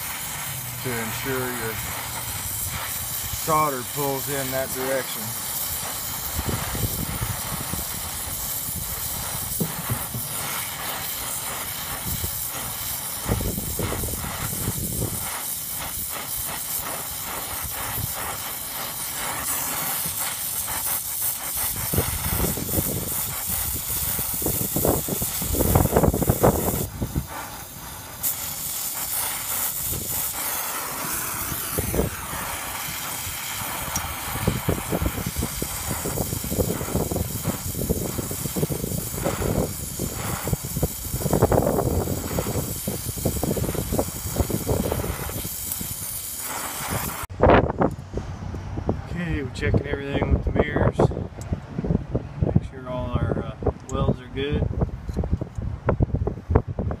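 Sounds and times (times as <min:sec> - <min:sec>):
torch flame hissing: 0:00.0 - 0:57.0.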